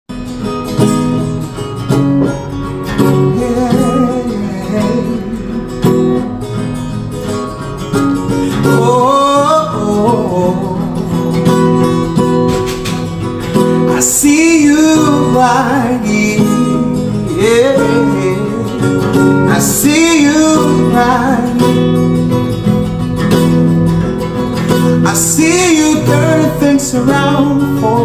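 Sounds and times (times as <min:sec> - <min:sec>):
acoustic guitar strumming: 0:00.1 - 0:28.0.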